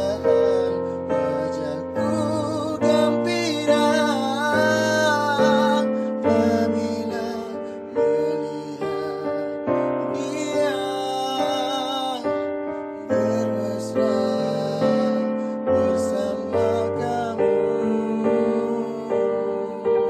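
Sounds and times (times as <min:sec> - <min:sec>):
man singing: 0:00.0 - 0:20.0
piano chords: 0:00.0 - 0:20.0.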